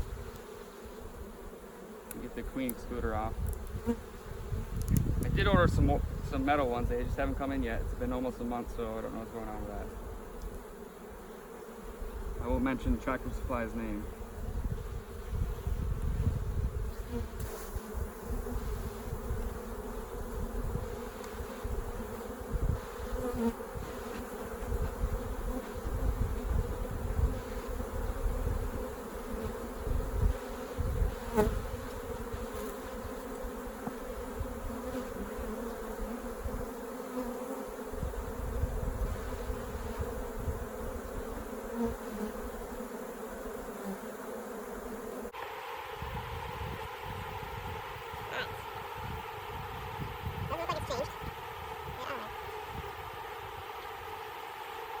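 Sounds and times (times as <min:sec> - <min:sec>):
honey bees buzzing: 0:00.0 - 0:55.0.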